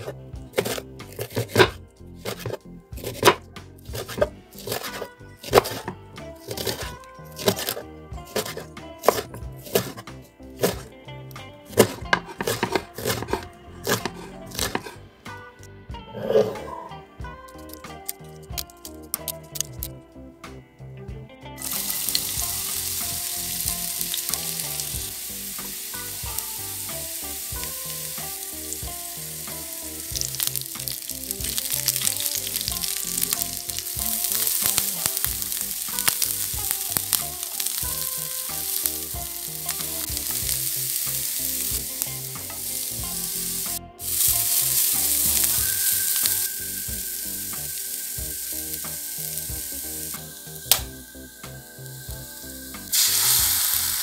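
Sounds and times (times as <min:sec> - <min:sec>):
onions sizzling in hot oil: 0:00.0 - 0:10.9, 0:11.7 - 0:15.0, 0:21.6 - 0:54.0.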